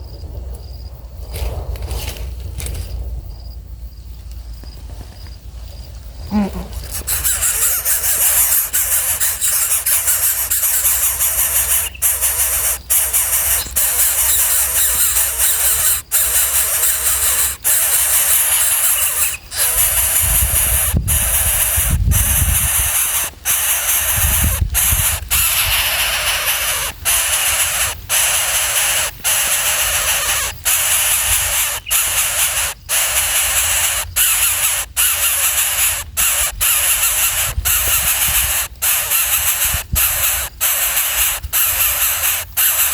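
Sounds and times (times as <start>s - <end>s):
baby birds hissing begging calls: 6.3s - 42.9s.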